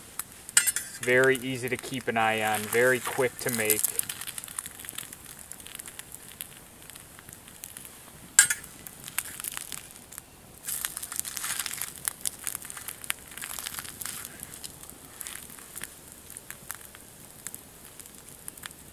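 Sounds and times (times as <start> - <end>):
wood fire crackling: 0.0 - 18.9
sharp pop of fire: 0.1 - 18.9.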